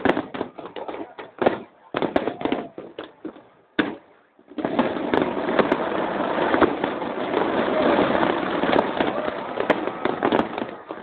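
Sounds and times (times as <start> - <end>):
firework bang: 0.0 - 11.0
fireworks crackling: 0.0 - 11.0.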